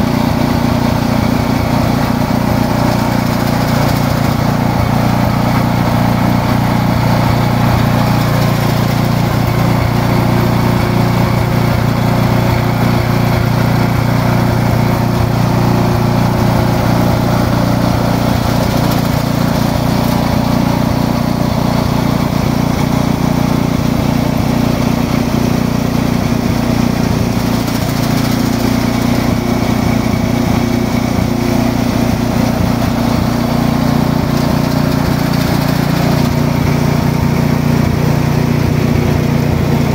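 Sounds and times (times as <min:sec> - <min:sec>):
leaf-cutting machine drone: 0:00.0 - 0:39.9.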